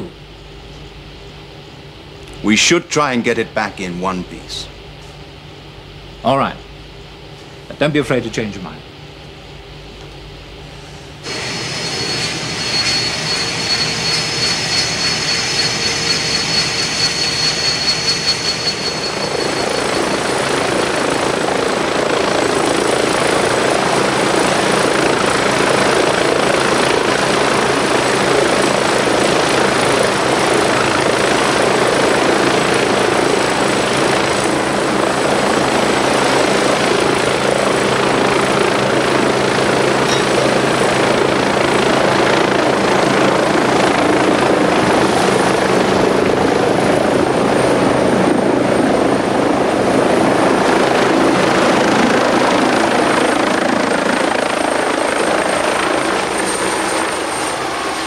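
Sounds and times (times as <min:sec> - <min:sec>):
helicopter turbine and rotors: 0:00.0 - 0:58.0
high turbine whine: 0:00.0 - 0:58.0.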